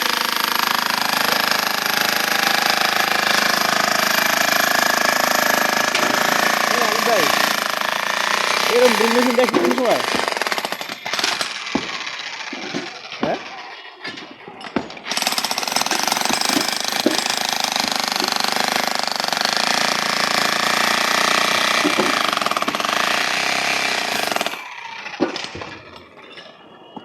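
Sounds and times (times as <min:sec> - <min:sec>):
demolition hammer chiselling concrete: 0:00.0 - 0:26.2.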